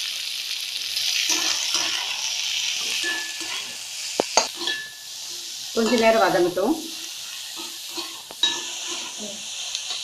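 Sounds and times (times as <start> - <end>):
onions sizzling in a pan: 0.0 - 10.0
spatula scraping a pan: 1.3 - 10.0.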